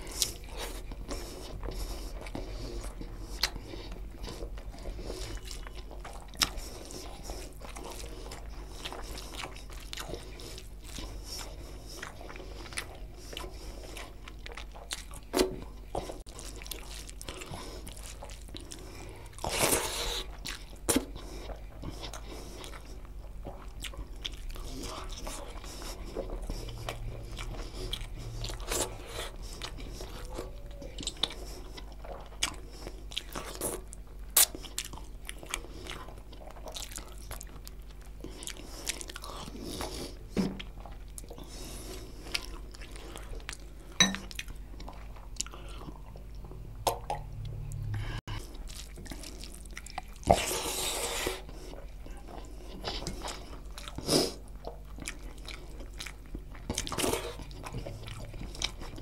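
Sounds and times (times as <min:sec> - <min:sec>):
person chewing and eating: 0:00.0 - 0:59.0.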